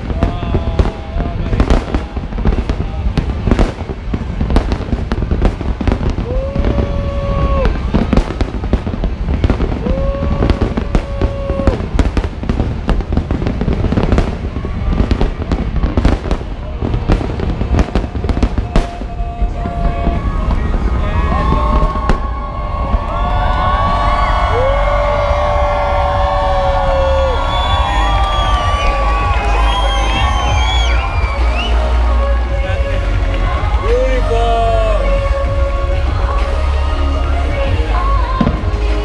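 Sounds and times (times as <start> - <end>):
firework bangs and crackles: 0.0 - 39.0
low rumble: 0.0 - 39.0.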